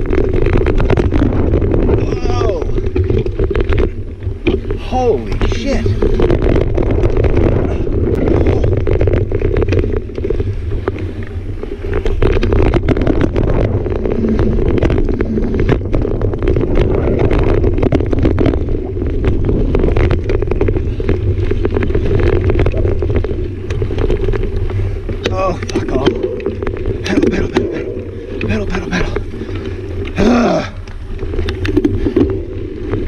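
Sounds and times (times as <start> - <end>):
bike rattling and clicking: 0.0 - 33.0
tyres rumbling on dirt: 0.0 - 33.0
wind noise on microphone: 0.0 - 33.0.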